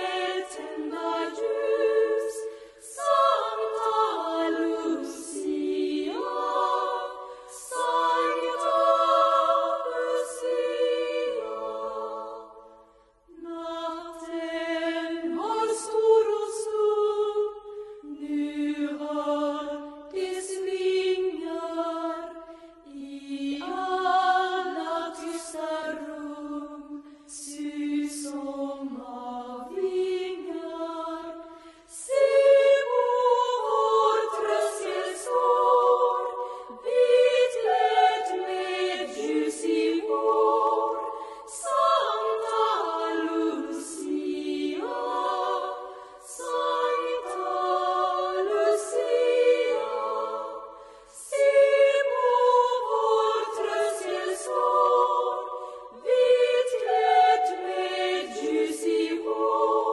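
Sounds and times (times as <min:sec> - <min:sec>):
girls' choir singing: 0:00.0 - 0:59.9.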